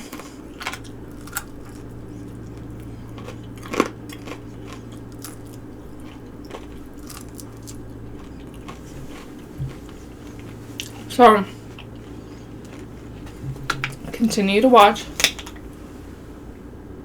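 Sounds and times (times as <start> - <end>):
chewing and biting: 0.0 - 14.3, 15.1 - 15.8
low hum: 0.0 - 17.0.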